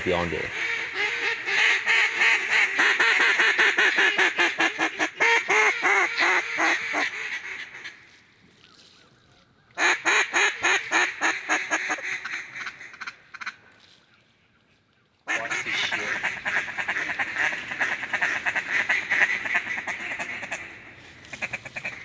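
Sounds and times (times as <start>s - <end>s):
duck quacking: 0.0s - 8.0s, 9.8s - 13.6s, 15.3s - 22.0s.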